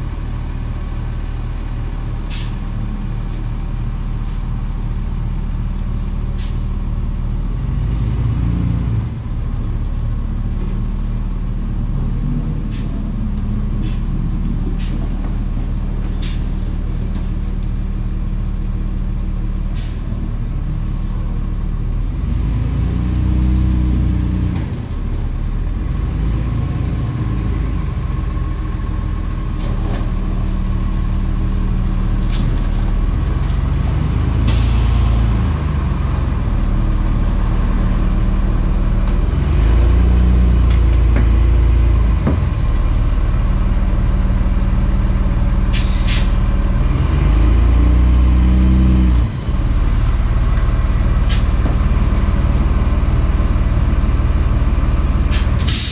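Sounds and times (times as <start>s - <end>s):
truck engine idling and revving: 0.0s - 55.9s.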